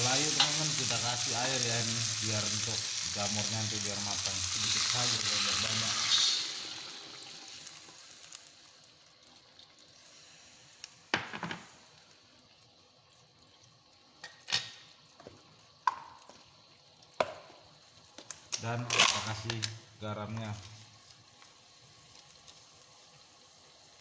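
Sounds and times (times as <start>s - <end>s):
vegetables sizzling in a pan: 0.0s - 24.0s.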